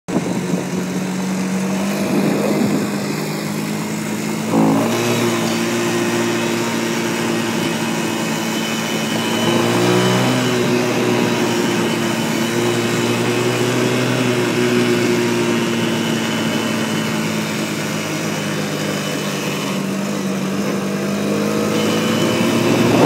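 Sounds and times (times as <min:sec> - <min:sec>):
quad engine running: 0:00.1 - 0:23.0.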